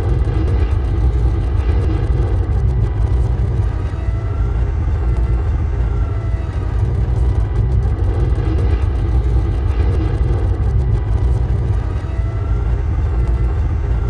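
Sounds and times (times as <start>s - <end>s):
spacecraft engine low rumble: 0.0s - 14.0s.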